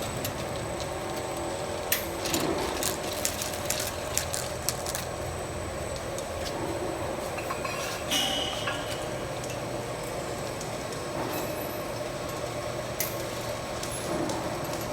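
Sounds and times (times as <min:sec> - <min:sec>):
washing machine humming: 0:00.0 - 0:14.9.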